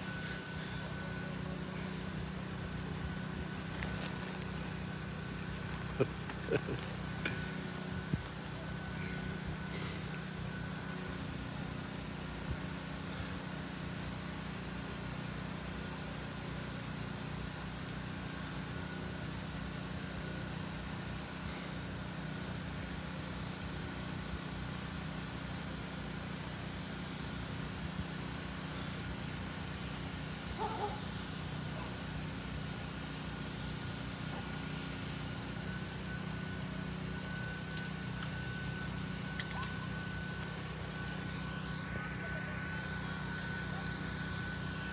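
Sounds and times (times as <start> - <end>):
faint high whine: 0.0 - 44.9
motor droning: 0.0 - 44.9.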